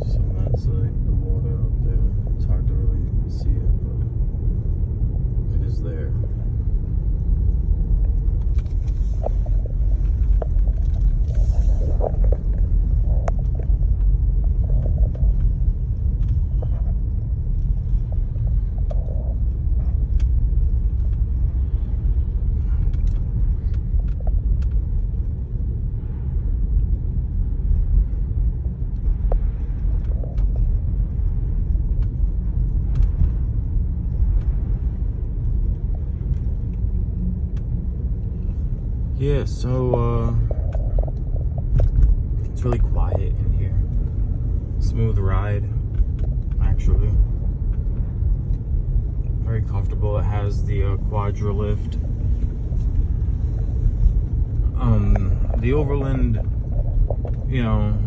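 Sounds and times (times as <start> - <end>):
car engine: 0.0 - 58.0
tyre and road noise: 0.0 - 58.0.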